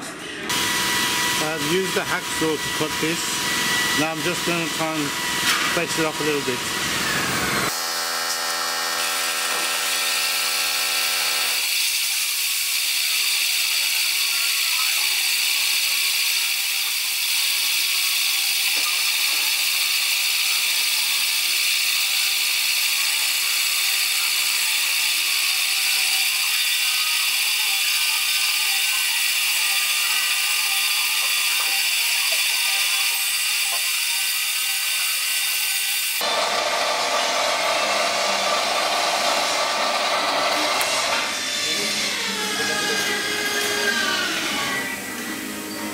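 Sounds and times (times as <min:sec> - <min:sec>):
lathe whining: 0:00.5 - 0:45.8.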